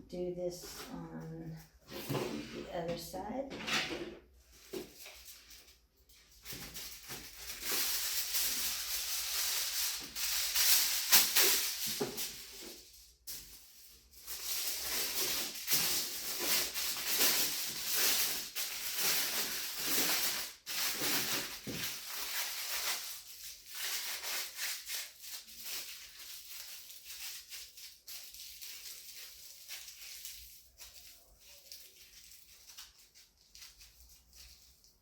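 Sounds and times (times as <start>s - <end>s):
crafting material crinkling: 4.2s - 35.0s.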